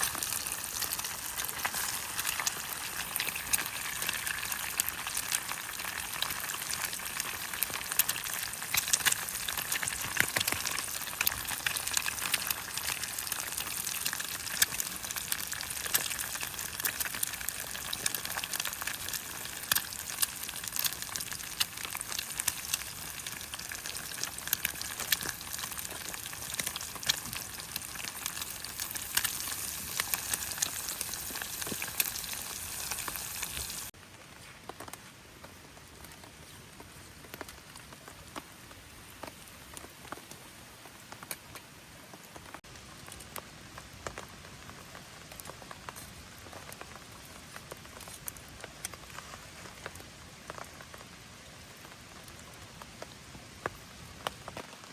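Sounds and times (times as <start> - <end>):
food sizzling with pops: 0.0 - 34.0, 35.5 - 54.8.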